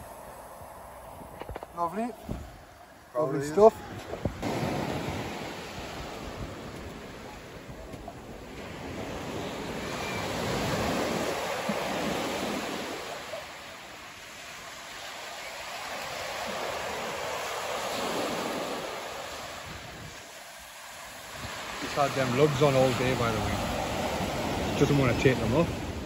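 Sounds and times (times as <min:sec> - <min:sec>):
sea waves breaking on beach: 0:00.0 - 0:26.0.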